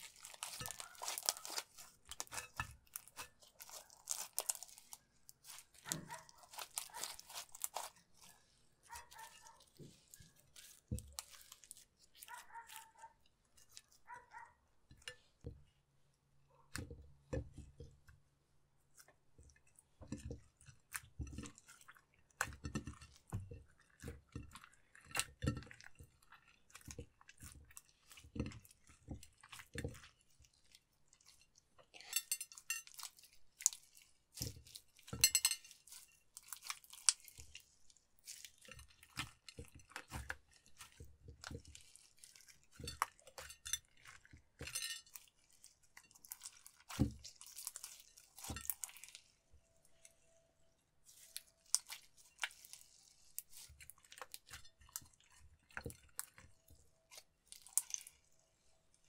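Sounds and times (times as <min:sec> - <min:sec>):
slime squishing and crackling: 0:00.0 - 0:14.4, 0:19.0 - 0:50.3, 0:51.0 - 0:58.8.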